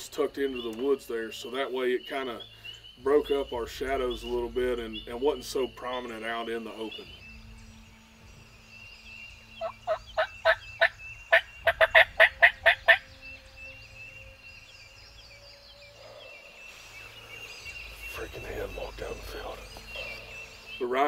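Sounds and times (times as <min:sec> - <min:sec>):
wild turkey calling: 0:00.0 - 0:21.0.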